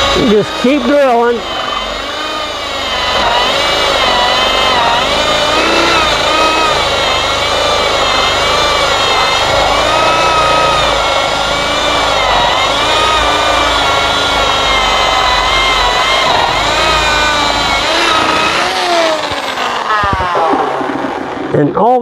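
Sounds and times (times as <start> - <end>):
electric drill boring through wood: 0.0 - 21.6.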